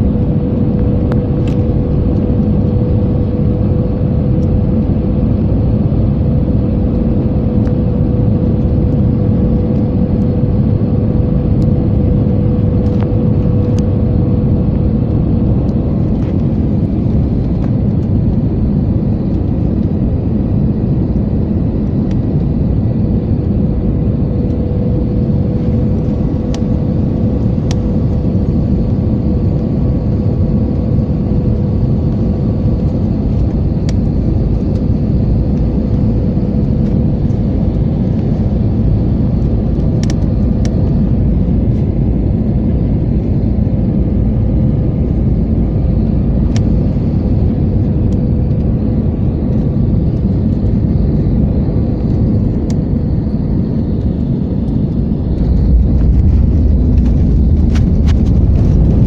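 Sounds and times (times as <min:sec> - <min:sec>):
airliner cabin engine noise: 0:00.0 - 0:59.0.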